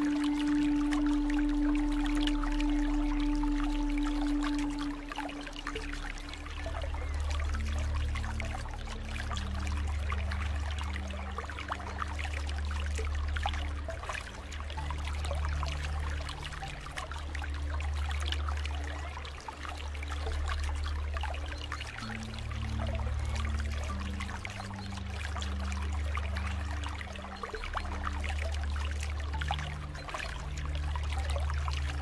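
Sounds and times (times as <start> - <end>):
low held tones: 0.0 - 32.0
pool water trickling and splashing: 0.0 - 32.0.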